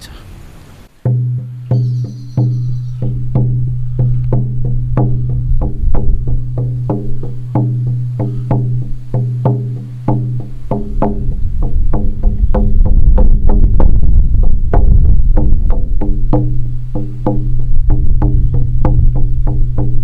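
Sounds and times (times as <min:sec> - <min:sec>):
frame drum beaten steadily: 0:01.0 - 0:20.0.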